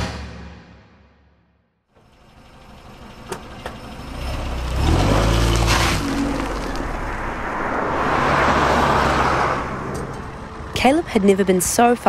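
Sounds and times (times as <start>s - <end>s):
low engine hum: 1.9s - 12.0s
vehicles passing by: 2.0s - 12.0s.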